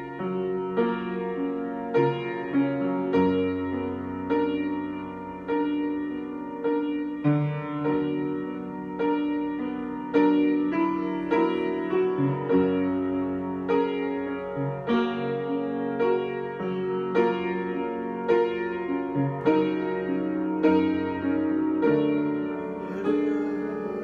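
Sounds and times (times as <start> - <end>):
solo piano improvising: 0.0 - 24.0.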